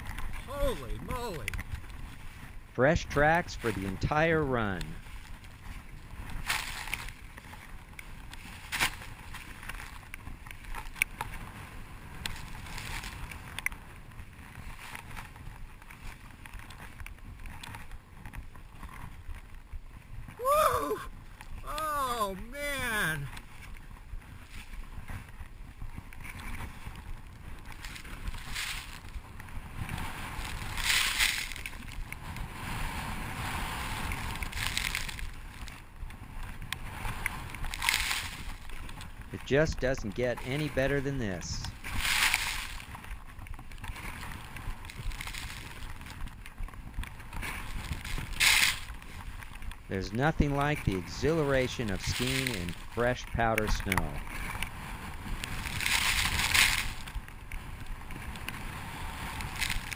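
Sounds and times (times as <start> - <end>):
wind rumble on microphone: 0.0 - 21.7, 22.6 - 59.9.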